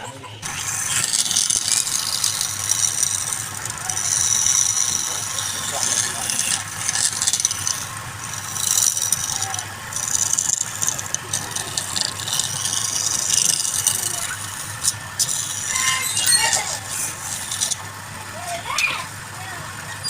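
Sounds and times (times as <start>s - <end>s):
turning tool scraping wood: 0.0s - 18.7s
wood lathe humming: 0.0s - 20.0s.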